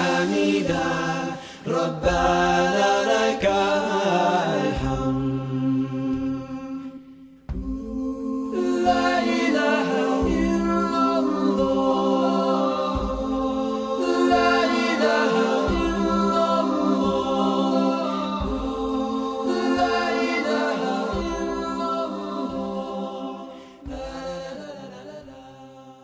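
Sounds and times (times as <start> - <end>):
a cappella singing: 0.0 - 26.0.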